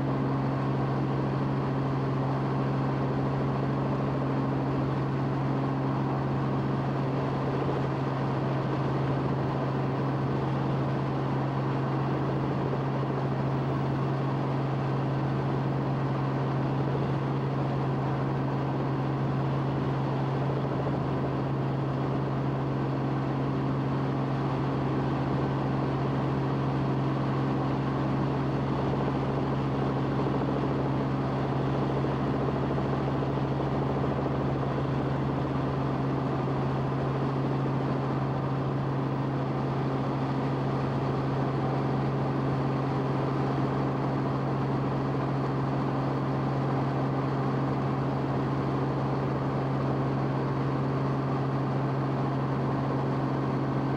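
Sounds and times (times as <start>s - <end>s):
aircraft engine drone: 0.0s - 53.9s.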